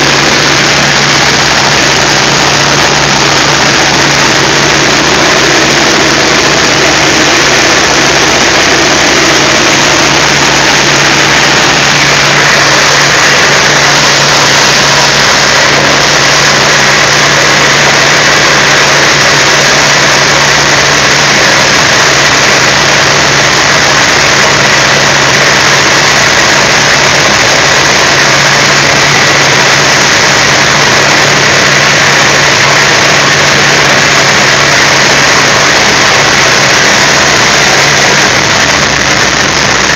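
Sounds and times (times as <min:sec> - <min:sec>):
air rushing over canopy: 0:00.0 - 0:39.9
radial aircraft engine and propeller: 0:00.0 - 0:39.9.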